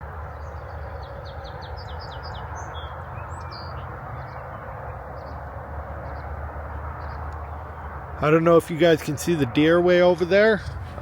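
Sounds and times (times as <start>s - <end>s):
songbird singing: 0.0s - 11.0s
steady low rumble: 0.0s - 11.0s.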